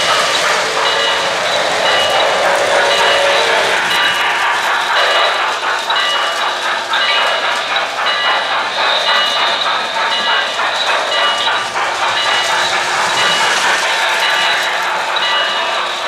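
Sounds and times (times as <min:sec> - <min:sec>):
model train running on track: 0:00.0 - 0:16.0
recorded steam train sounds: 0:00.0 - 0:16.0.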